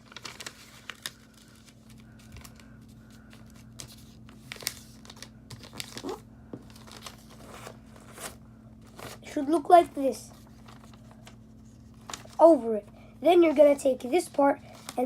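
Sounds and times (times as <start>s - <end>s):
low electrical hum: 0.0s - 15.0s
paper crinkling and creasing: 0.0s - 15.0s.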